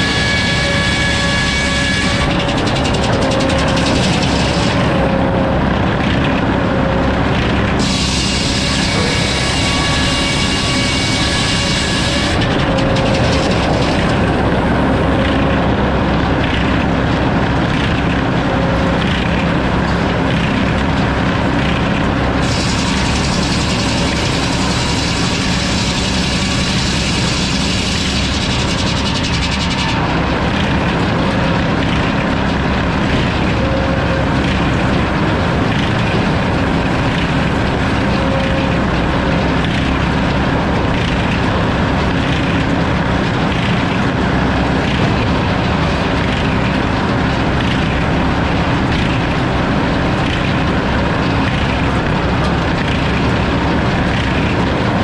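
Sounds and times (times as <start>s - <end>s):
sawmill sawing a log: 0.0s - 55.0s.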